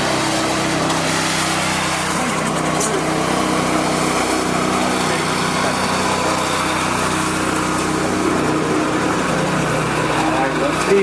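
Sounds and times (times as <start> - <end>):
power trowel petrol engine running: 0.0 - 11.0.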